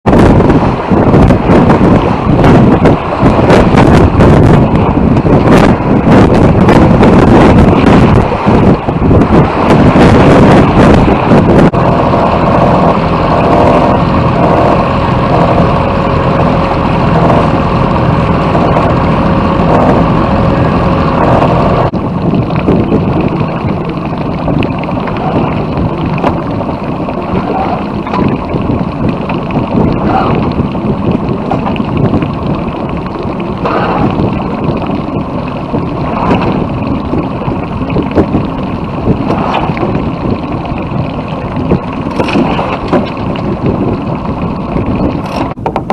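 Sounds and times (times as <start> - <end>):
boat engine running: 0.0 - 45.9
rushing water: 0.0 - 45.9
wind: 0.0 - 45.9.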